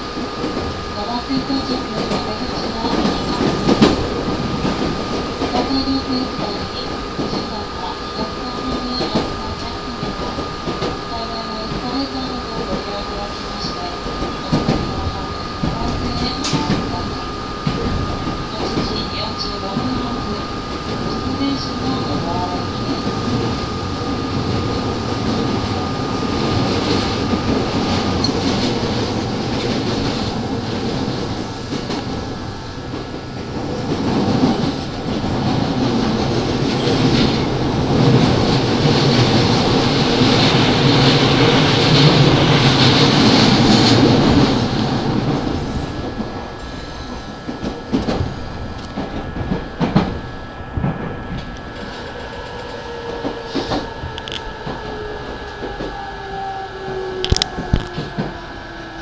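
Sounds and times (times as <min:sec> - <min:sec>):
rail-joint clickety-clack: 0:00.0 - 0:59.0
train wheels rumbling on rails: 0:00.0 - 0:59.0
steady high tone: 0:00.9 - 0:29.4, 0:30.0 - 0:59.0.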